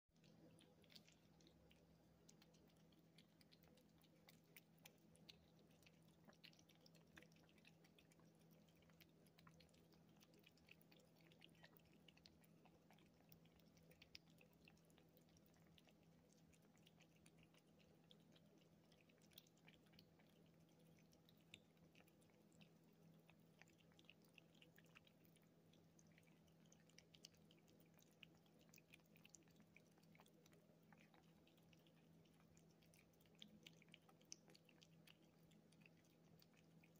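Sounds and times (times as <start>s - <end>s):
kittens licking and smacking: 0.1s - 36.9s.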